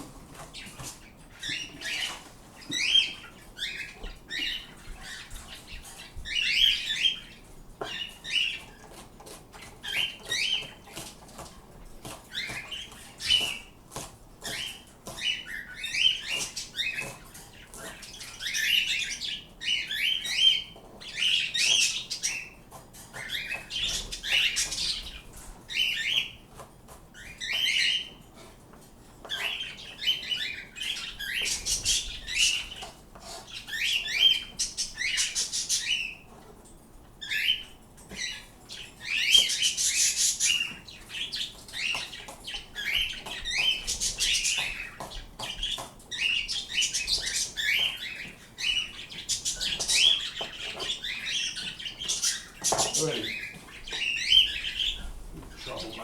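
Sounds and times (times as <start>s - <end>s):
pet birds chirping: 0.0s - 56.0s.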